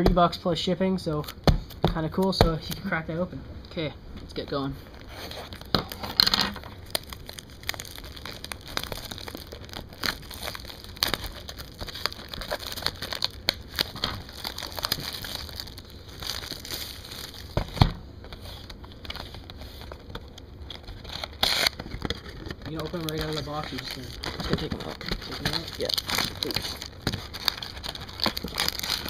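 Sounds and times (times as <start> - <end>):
plastic wrap and cardboard crinkling: 4.8 - 29.0.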